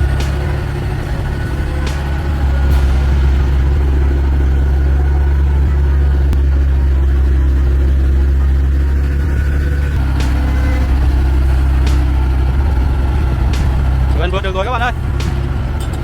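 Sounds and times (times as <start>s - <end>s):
truck engine running under load: 0.0s - 16.0s.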